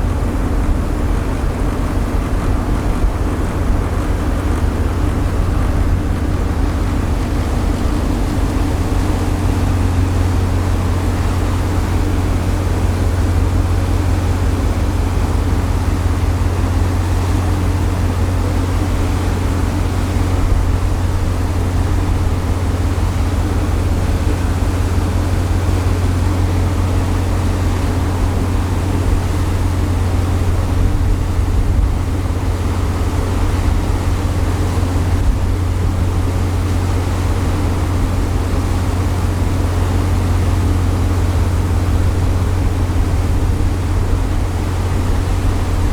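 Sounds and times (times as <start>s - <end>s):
hiss of wind and water: 0.0s - 45.9s
ship engines low drone: 0.0s - 45.9s.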